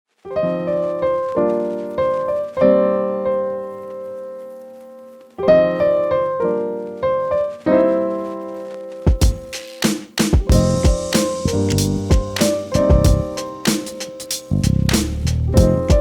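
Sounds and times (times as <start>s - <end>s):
piano chords ringing: 0.3s - 9.6s, 10.4s - 16.0s.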